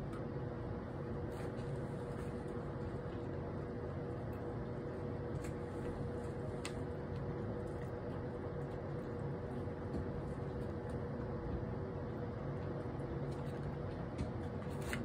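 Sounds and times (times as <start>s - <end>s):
air purifier fan humming: 0.0s - 15.0s.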